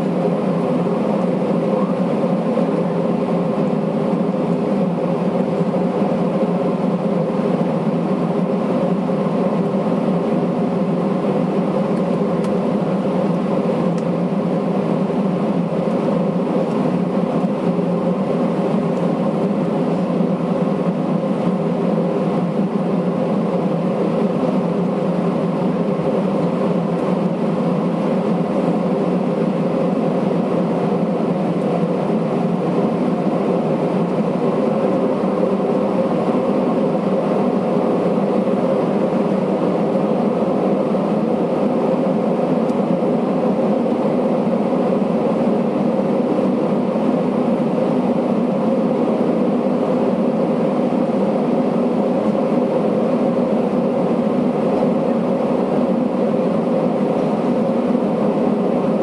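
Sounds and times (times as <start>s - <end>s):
airplane engine hum in cabin: 0.0s - 59.0s.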